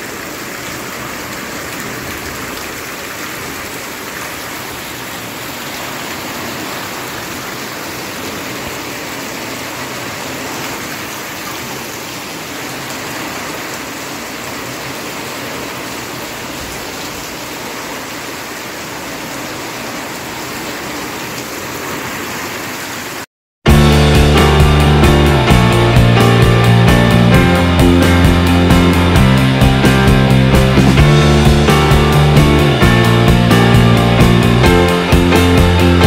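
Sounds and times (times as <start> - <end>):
rain on concrete: 0.0 - 36.0.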